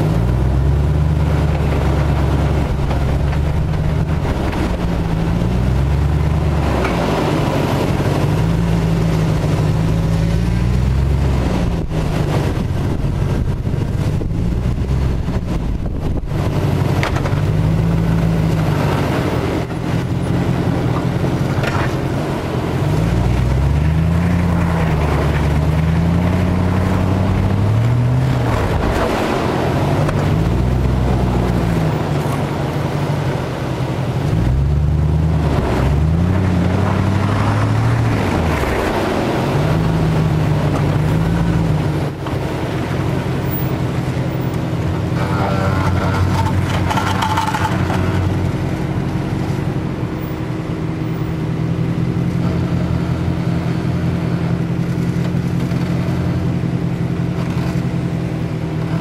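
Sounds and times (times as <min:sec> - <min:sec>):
car engine revving under load: 0:00.0 - 0:59.0
tyres on dirt: 0:00.0 - 0:59.0.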